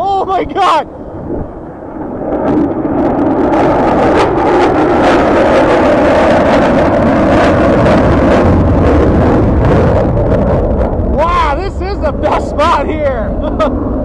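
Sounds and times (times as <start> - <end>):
fighter jet passing overhead: 0.0 - 14.0.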